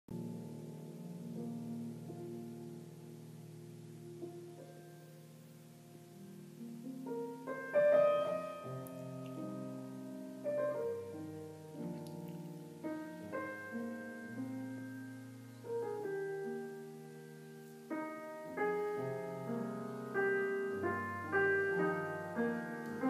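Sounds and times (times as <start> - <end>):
piano chords and melody: 0.1 - 23.0.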